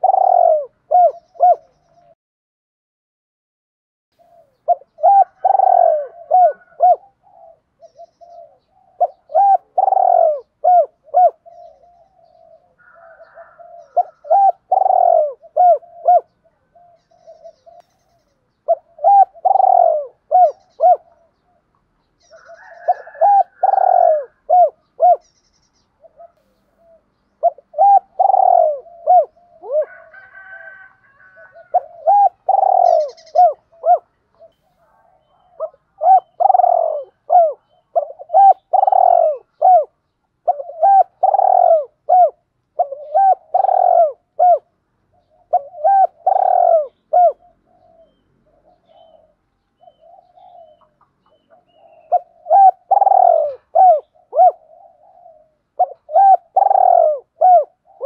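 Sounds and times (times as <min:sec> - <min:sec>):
dove cooing: 0:00.0 - 0:02.2, 0:04.2 - 0:58.0.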